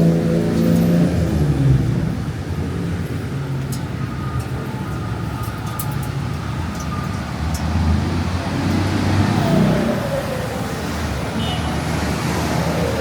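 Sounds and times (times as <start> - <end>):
vehicles passing: 0.0 - 13.0.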